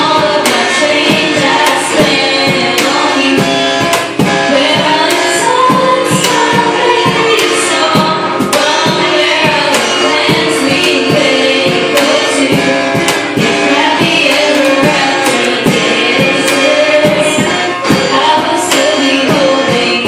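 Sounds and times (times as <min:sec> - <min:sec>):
acoustic guitar: 0:00.0 - 0:20.0
hand-struck cajon beat: 0:00.0 - 0:20.0
women singing into microphones: 0:00.0 - 0:20.0.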